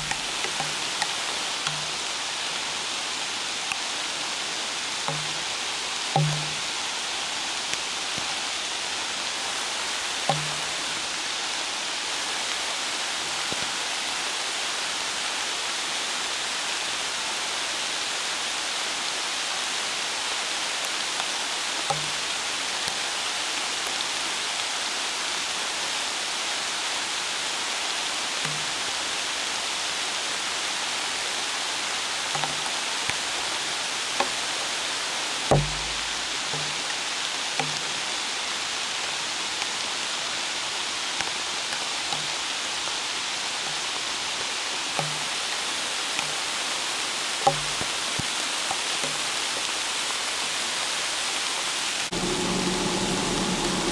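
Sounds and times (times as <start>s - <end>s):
falling rain: 0.0s - 53.9s
river rapids rushing: 0.0s - 53.9s.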